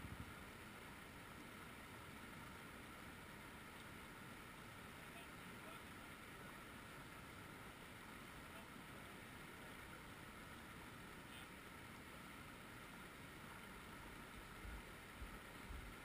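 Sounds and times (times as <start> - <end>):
creek rushing over rocks: 0.0 - 16.0.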